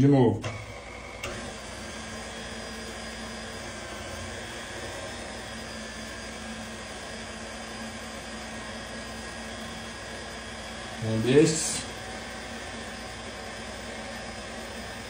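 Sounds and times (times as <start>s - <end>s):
stand mixer motor humming: 0.4s - 15.0s.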